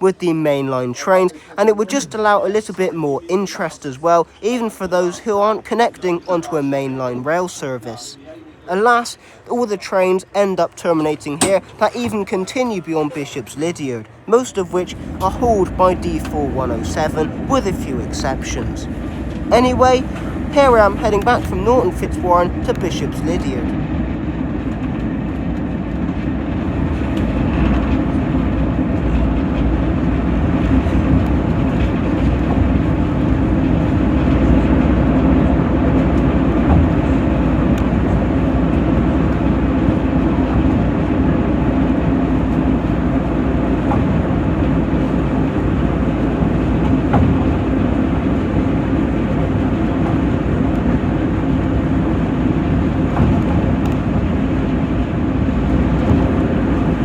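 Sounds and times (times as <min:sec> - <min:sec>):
locomotive engine drone: 0:00.0 - 0:57.0
wheels rumbling on track: 0:08.6 - 0:57.0.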